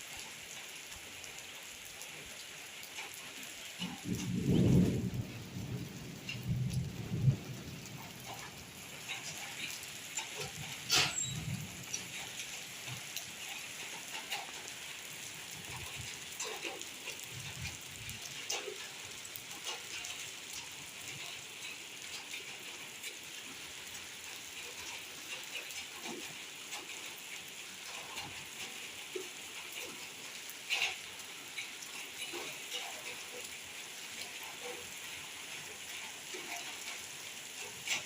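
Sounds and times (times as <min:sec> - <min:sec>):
raindrops striking close by: 0:00.0 - 0:38.0
steady rain hiss: 0:00.0 - 0:38.0.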